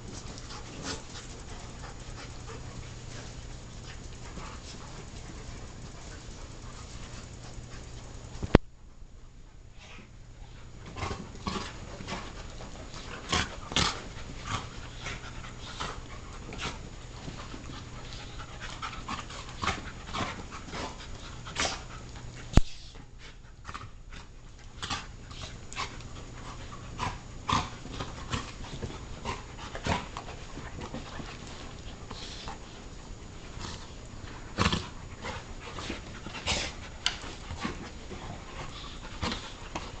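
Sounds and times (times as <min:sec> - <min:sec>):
dogs panting: 0:00.0 - 0:08.4, 0:09.8 - 0:40.0.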